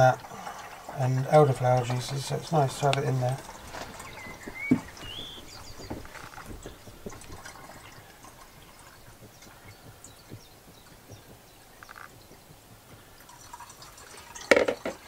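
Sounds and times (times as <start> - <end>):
liquid pouring into plastic bottle: 0.0 - 15.0.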